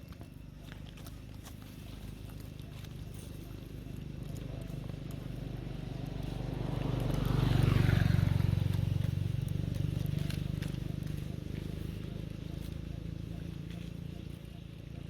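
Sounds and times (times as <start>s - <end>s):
vehicle engine passing by: 2.0s - 15.0s.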